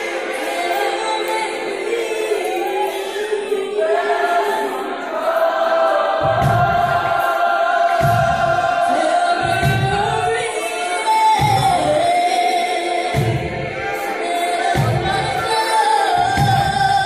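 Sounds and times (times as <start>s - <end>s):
voices singing long notes: 0.0s - 17.0s.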